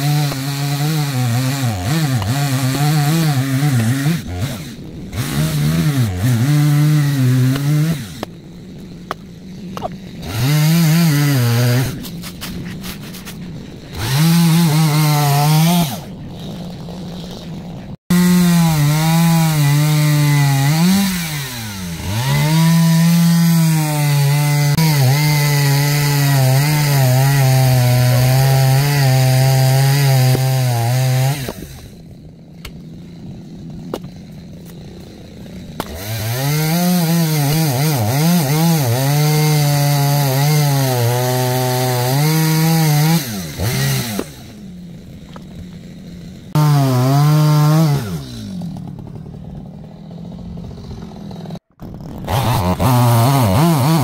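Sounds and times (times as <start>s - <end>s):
chainsaw cutting logs: 0.0s - 54.0s.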